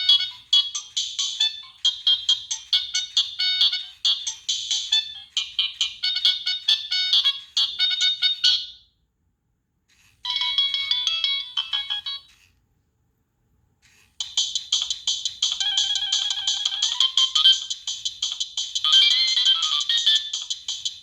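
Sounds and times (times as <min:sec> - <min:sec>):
electronic ringtone melodies: 0:00.0 - 0:08.8, 0:10.3 - 0:12.4, 0:14.2 - 0:21.0.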